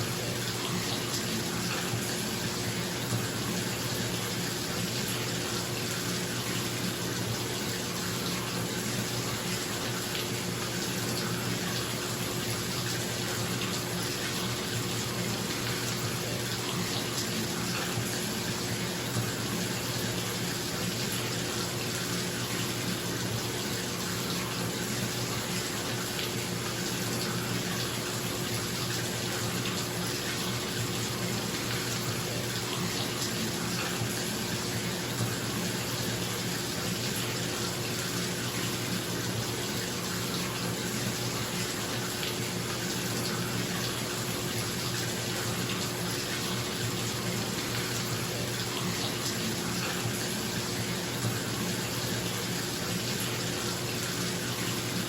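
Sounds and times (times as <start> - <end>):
tap water pouring into bathtub: 0.0 - 55.0.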